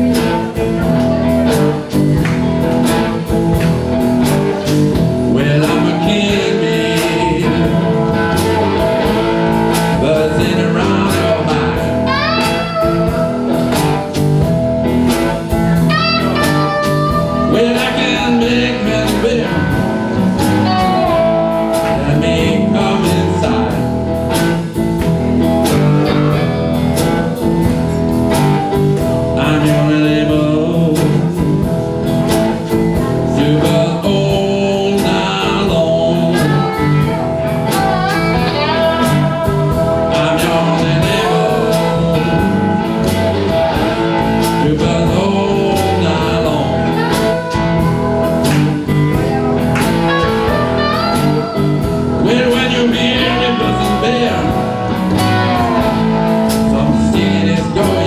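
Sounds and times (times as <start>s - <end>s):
blues band playing: 0.0s - 58.0s
slide guitar notes: 0.0s - 58.0s
steady drum beat: 0.0s - 58.0s
person singing: 4.2s - 14.1s, 15.4s - 24.7s, 25.7s - 58.0s.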